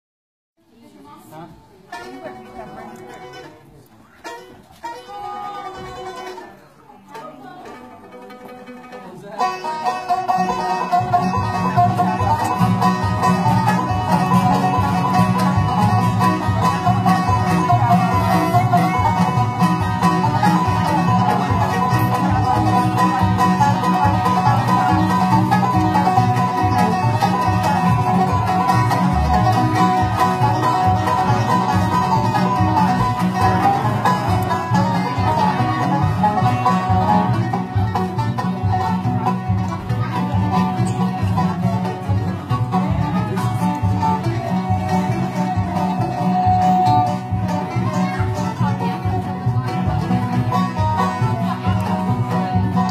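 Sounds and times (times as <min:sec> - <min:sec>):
banjo picking: 0:00.7 - 0:52.9
guitar: 0:00.8 - 0:52.9
sustained lead notes: 0:09.5 - 0:52.9.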